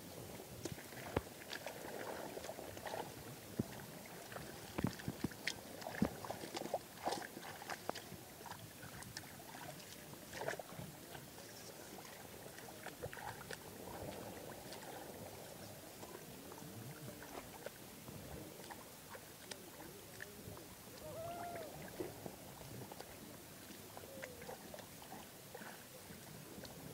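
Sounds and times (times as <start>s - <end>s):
sloshing in muddy water: 0.0s - 26.9s.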